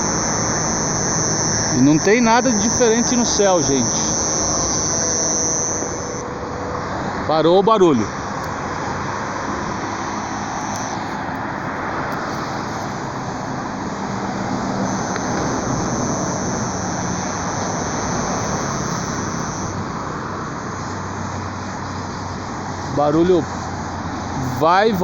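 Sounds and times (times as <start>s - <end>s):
high-pitched buzz: 0.0s - 6.6s, 9.7s - 25.0s
car and road noise: 0.0s - 25.0s.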